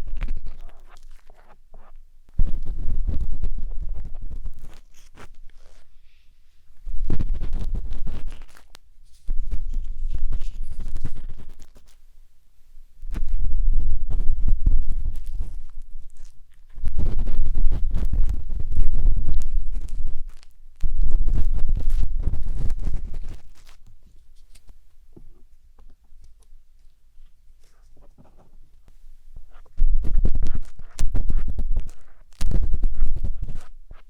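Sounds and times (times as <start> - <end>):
matchstick scraping microphone: 0.0 - 6.0, 6.8 - 12.0, 13.1 - 24.8, 29.5 - 34.0.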